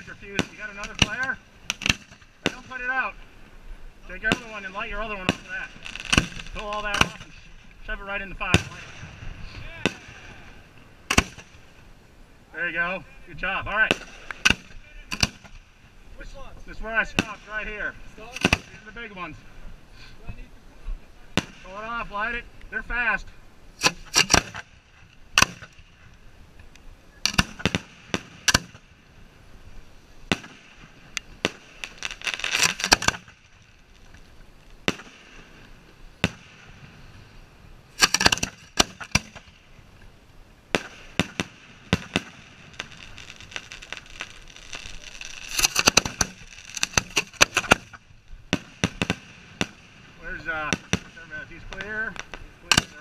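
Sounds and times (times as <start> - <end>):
fireworks reports: 0.0 - 53.0.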